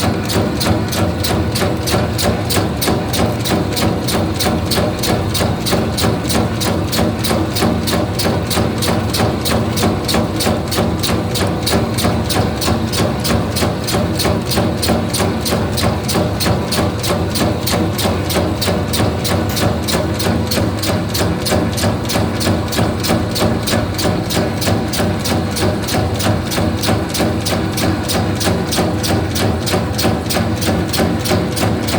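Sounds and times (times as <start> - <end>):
rapid machine clacking: 0.0 - 31.9.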